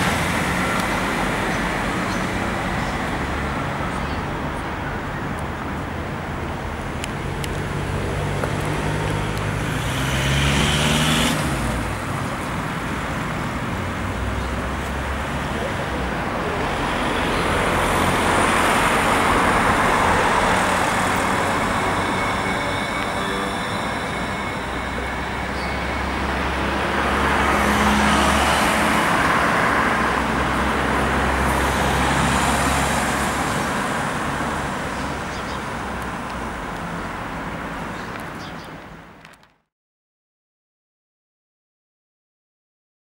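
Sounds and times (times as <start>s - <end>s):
road traffic passing: 0.0s - 39.7s.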